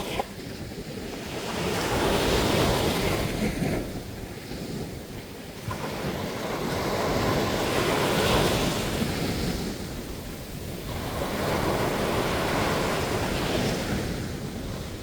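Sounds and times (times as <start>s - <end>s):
ocean waves breaking on beach: 0.0s - 15.0s
wind on microphone: 0.0s - 15.0s.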